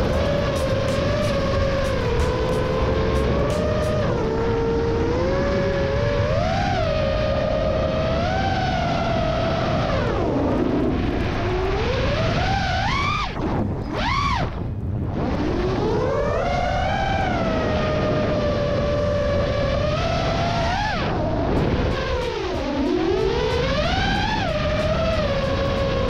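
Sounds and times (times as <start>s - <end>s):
drone motors whining: 0.0s - 26.0s
wind rush: 0.0s - 26.0s.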